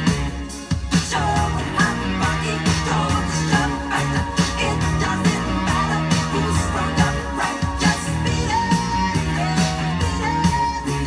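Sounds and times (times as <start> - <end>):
rock music with bass line: 0.0 - 11.0.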